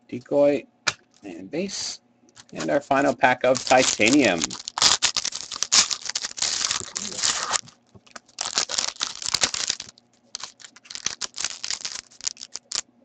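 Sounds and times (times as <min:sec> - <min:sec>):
foil wrapper tearing and crinkling: 0:02.4 - 0:12.8.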